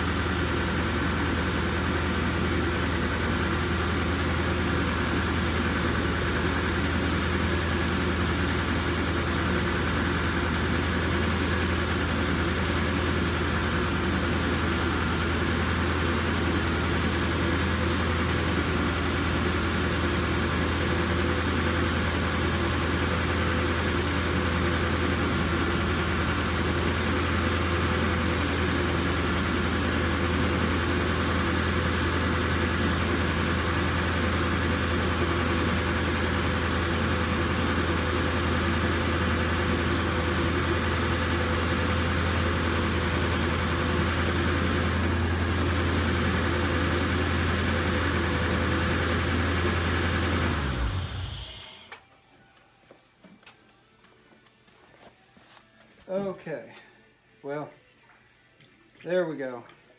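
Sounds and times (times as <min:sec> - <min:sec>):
engine idling: 0:00.0 - 0:51.8.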